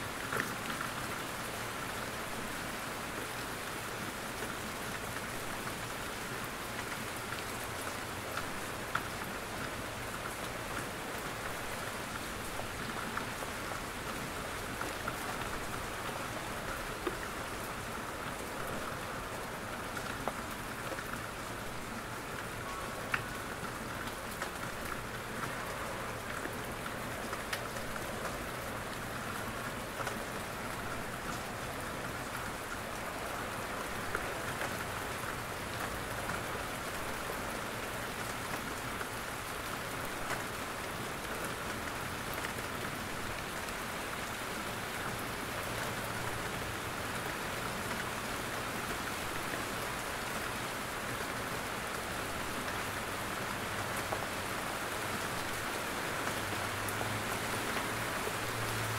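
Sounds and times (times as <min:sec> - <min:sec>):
steady rain in forest: 0:00.0 - 0:58.9.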